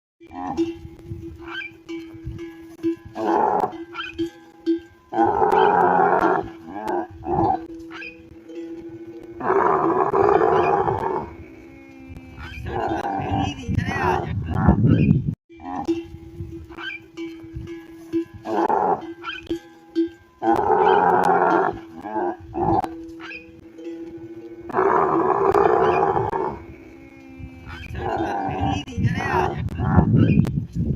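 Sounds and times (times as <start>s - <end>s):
camel calling: 0.2s - 30.5s.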